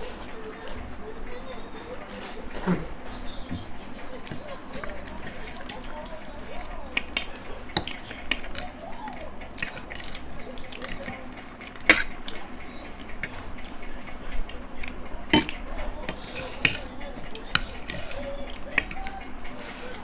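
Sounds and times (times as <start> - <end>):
cutlery scraping plates: 0.0 - 20.0.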